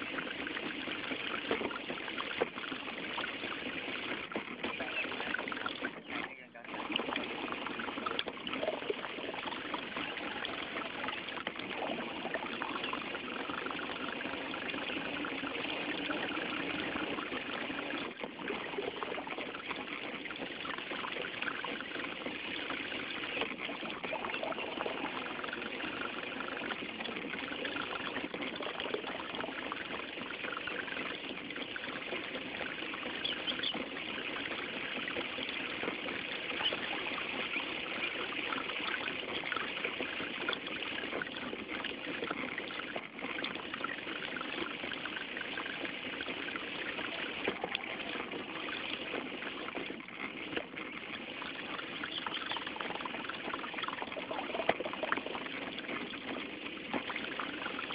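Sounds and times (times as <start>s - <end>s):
water splashing along boat hull: 0.0s - 57.9s.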